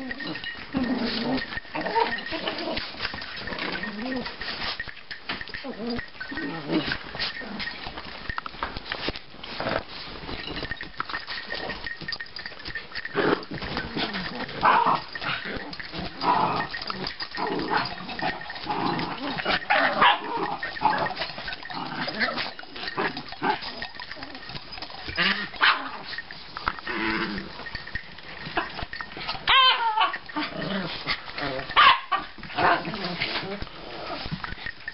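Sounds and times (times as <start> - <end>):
small dogs play-growling: 0.0 - 34.9.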